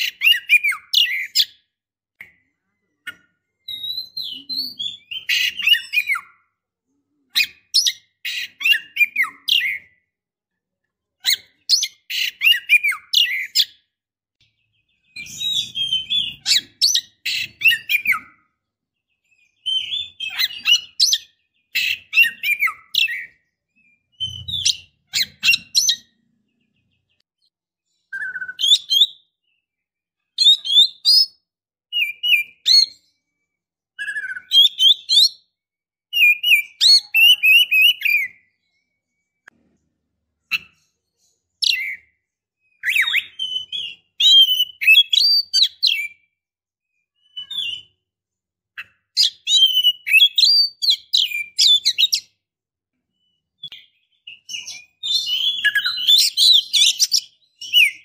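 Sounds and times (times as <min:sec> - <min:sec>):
bird chirping and twittering: 0:00.0 - 0:10.1, 0:11.1 - 0:52.4, 0:53.0 - 0:58.0.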